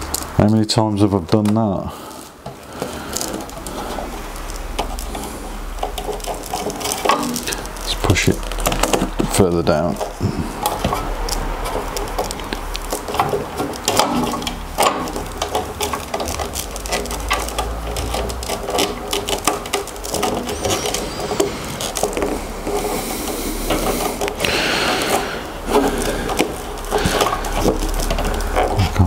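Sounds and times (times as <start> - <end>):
plastic hose rubbing and creaking: 0.0 - 29.0.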